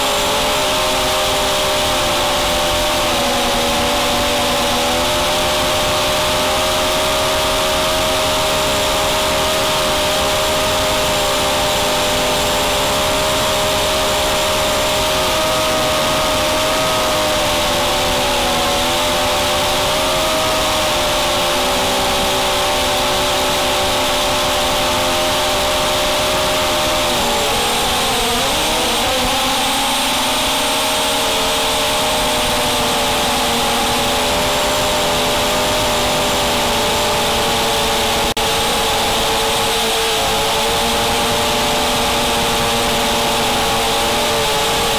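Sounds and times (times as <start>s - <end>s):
quadcopter propellers whining: 0.0s - 44.9s.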